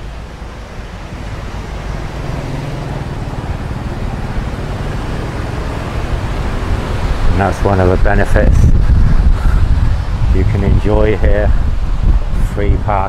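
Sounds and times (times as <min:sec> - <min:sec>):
vehicle engine droning: 0:00.0 - 0:12.4.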